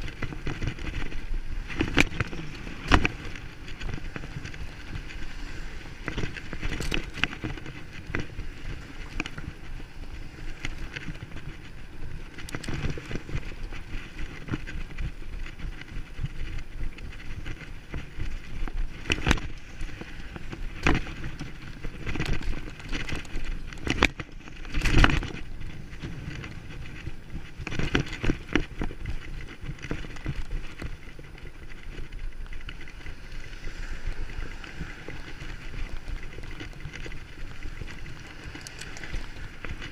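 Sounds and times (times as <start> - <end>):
bicycle rolling over rough ground: 0.0 - 39.9.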